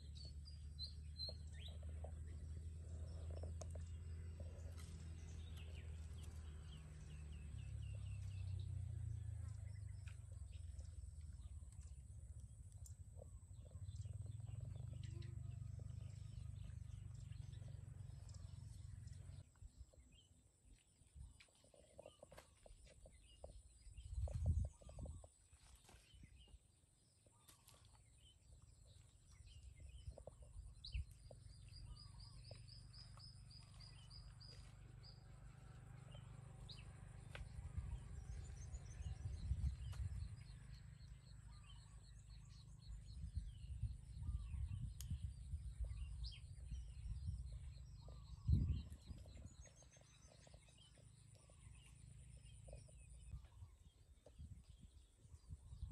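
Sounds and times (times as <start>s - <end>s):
steady low rumble: 0.0s - 21.5s, 23.0s - 25.3s, 28.2s - 55.9s
small birds chirping and trilling: 0.0s - 55.9s.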